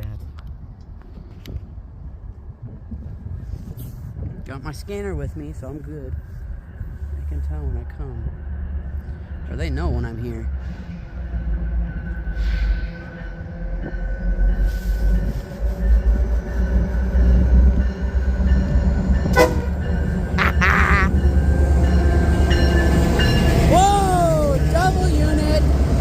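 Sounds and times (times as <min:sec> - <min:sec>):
train engine and rail rumble: 0:00.0 - 0:26.0.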